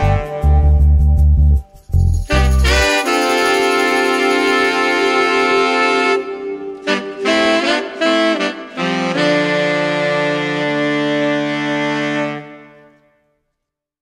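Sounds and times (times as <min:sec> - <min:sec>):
instrumental outro music: 0:00.0 - 0:13.0.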